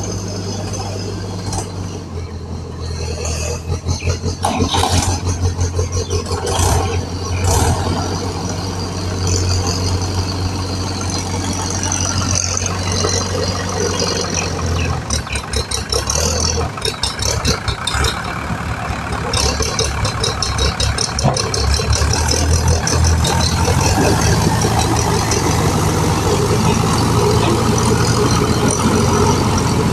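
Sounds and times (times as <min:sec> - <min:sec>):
engine rattle: 0:00.0 - 0:29.9
heavy machinery diesel engine: 0:00.0 - 0:29.9.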